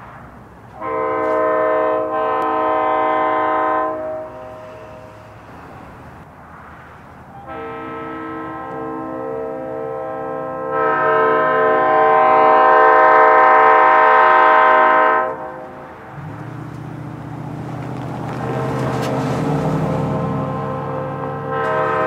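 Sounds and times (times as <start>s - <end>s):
diesel engine rumbling: 0.0s - 10.6s, 13.4s - 22.0s
locomotive air horn: 0.7s - 6.2s, 7.3s - 16.6s, 18.2s - 22.0s.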